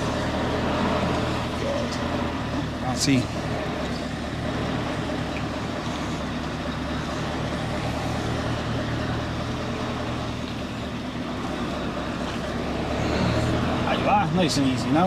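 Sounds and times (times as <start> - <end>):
lorry engine humming: 0.0 - 15.0.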